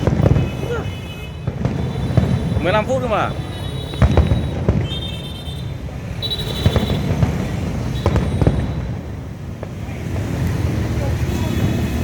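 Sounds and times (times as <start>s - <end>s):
fireworks bangs: 0.0s - 12.0s
low rumble of fireworks bursts: 0.0s - 12.0s.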